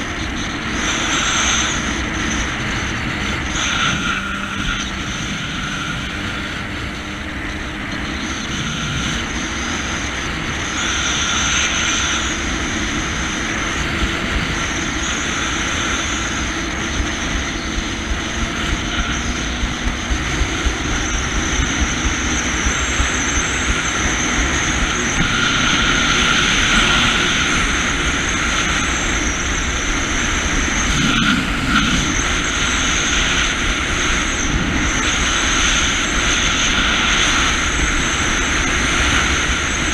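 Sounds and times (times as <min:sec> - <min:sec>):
jet ski engine droning: 0:00.0 - 0:39.9.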